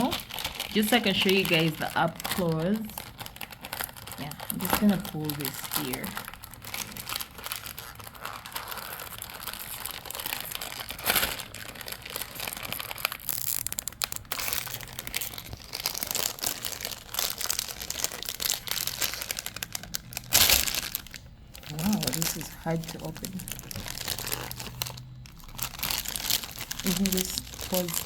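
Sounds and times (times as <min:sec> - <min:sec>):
wrapper crinkling and tearing: 0:00.0 - 0:28.0.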